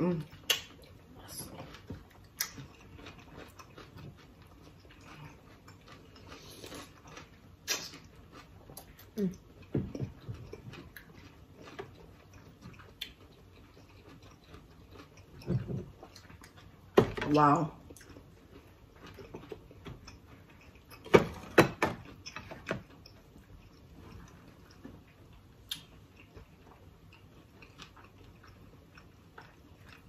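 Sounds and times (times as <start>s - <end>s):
chewing and smacking: 0.2s - 30.0s.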